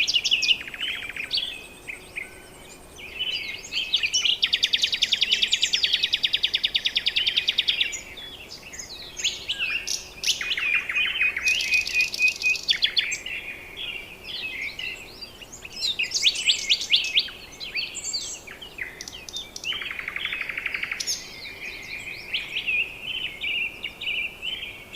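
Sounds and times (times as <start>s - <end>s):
bird trill: 0.0s - 24.8s
birds chirping and whistling: 0.0s - 24.9s.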